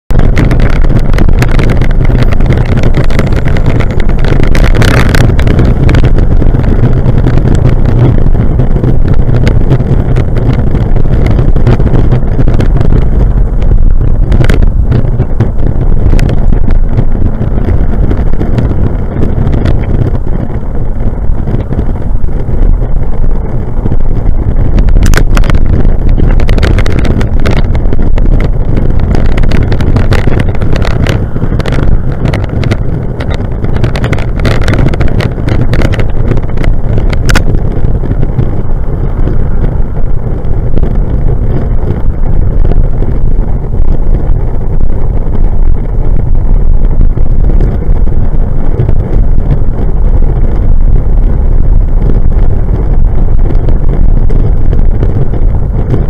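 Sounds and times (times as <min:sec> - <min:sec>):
heavy wind buffeting microphone: 0:00.0 - 0:56.0
road rumble: 0:00.0 - 0:56.0.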